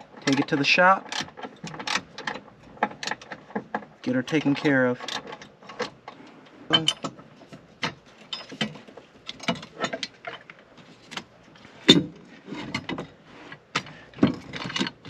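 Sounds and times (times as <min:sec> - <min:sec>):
hand tools clicking and clanking: 0:00.0 - 0:15.0.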